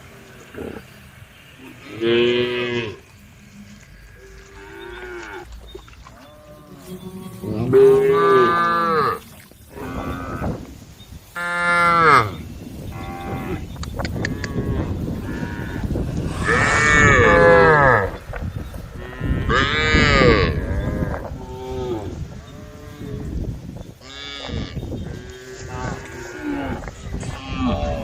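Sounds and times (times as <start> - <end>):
cows mooing: 1.6 - 10.7, 11.4 - 18.2, 18.9 - 23.4, 24.0 - 28.0.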